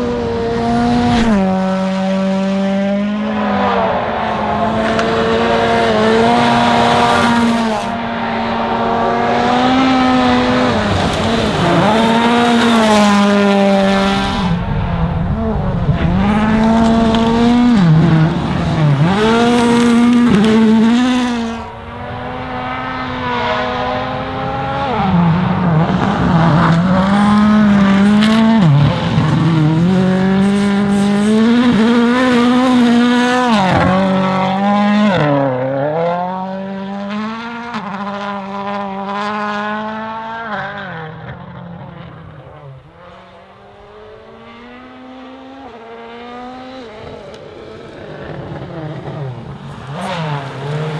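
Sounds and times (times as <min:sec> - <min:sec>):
rally car engine revving high: 0:00.0 - 0:50.9.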